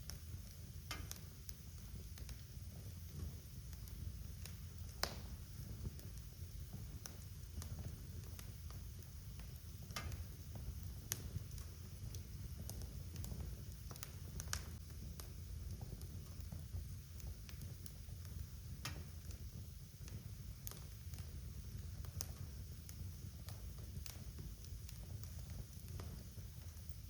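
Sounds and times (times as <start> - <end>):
low rumble of burning logs: 0.0 - 27.0
wood fire crackling: 0.0 - 27.0.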